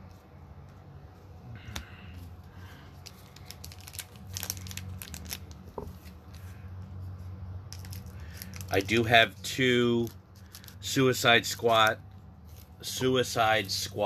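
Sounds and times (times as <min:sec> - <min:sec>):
steady low hum: 0:00.0 - 0:14.0
cards and packaging crinkling: 0:01.6 - 0:14.0.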